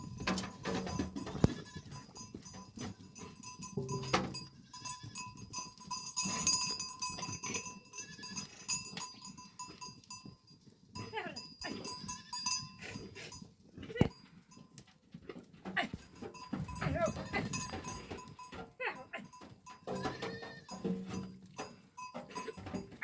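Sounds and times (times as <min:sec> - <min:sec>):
sheep and goats bleating: 0:00.0 - 0:10.3, 0:10.9 - 0:14.3, 0:15.7 - 0:23.0
livestock bells ringing: 0:00.0 - 0:14.8, 0:16.0 - 0:23.0.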